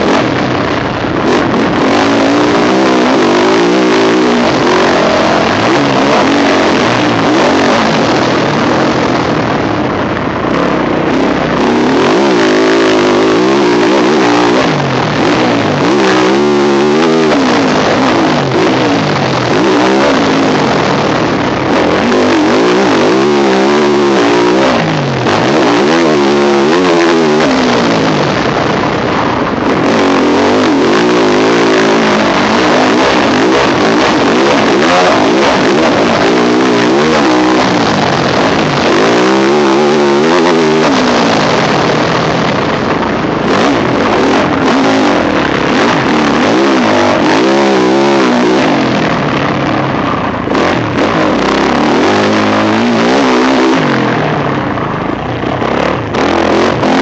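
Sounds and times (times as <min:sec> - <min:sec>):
constant rushing noise: 0:00.0 - 0:57.0
motorcycle engine revving: 0:00.0 - 0:57.0.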